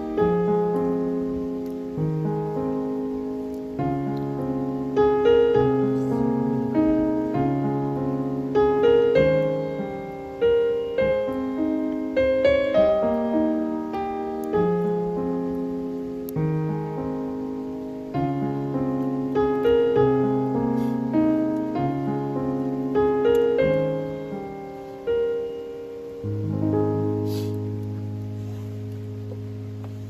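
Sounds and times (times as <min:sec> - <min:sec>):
solo piano music: 0:00.0 - 0:30.0.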